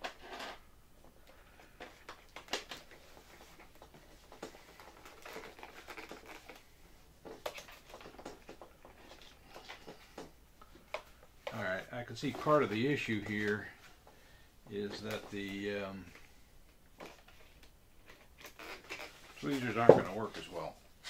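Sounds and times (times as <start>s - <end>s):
faint rustling and scraping: 0.0s - 21.0s.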